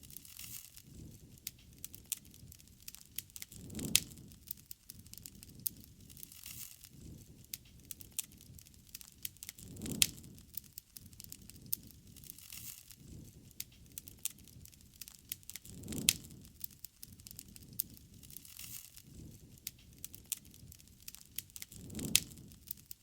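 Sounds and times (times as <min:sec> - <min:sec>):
campfire crackling and popping: 0:00.0 - 0:23.0
rush of flames: 0:00.0 - 0:23.0.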